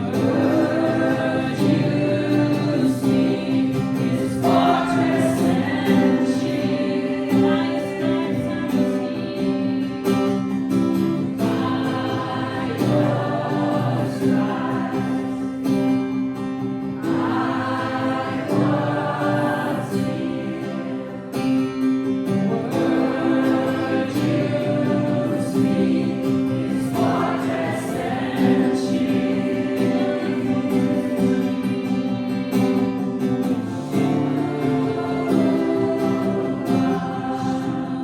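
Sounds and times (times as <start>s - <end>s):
group of voices singing: 0.0s - 38.0s
strummed acoustic guitar: 0.0s - 38.0s.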